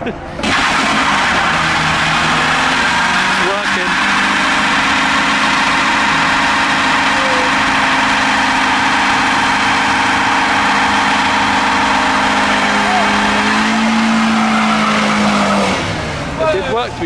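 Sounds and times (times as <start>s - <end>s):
engine held at steady revs: 0.0s - 17.0s
wheels spinning in burnout: 0.0s - 17.0s.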